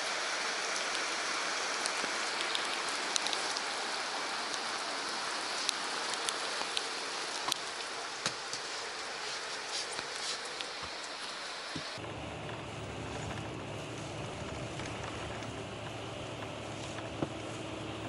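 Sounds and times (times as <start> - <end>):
heavy rain hissing: 0.0 - 18.0
raindrops tapping: 0.1 - 18.0.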